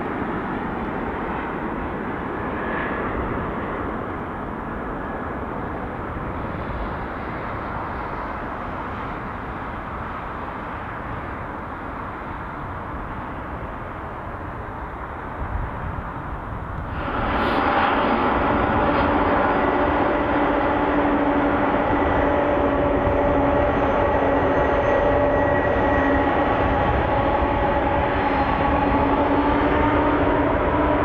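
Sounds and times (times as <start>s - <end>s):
jet engine rumble: 0.0s - 31.0s.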